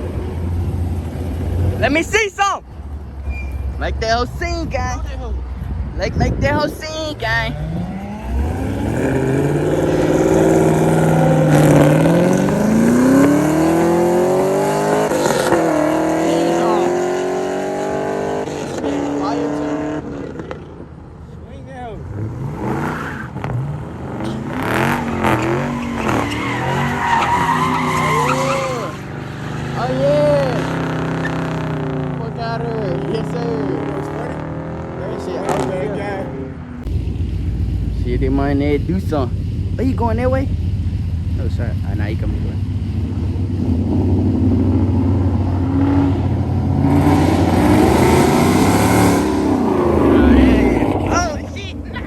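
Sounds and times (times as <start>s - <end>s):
tires squealing: 0.0s - 20.7s, 21.9s - 40.5s, 41.3s - 52.0s
car engine revving hard: 6.4s - 20.8s, 22.0s - 40.6s, 41.4s - 51.9s.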